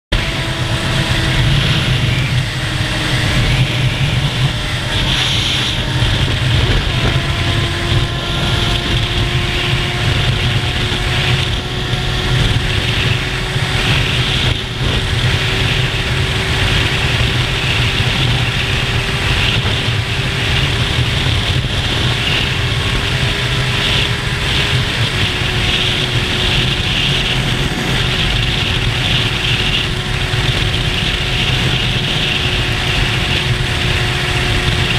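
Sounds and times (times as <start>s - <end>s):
motorcycle engine running: 0.1s - 34.9s
wind rushing on microphone: 0.1s - 34.9s.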